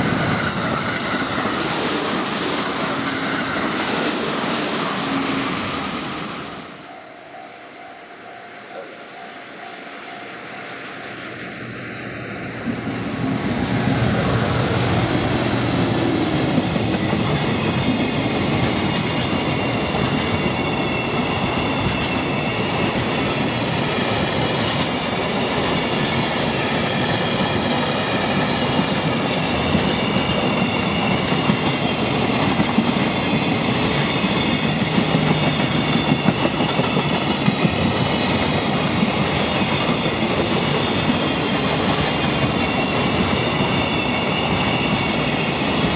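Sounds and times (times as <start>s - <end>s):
freight train passing: 0.0s - 45.9s.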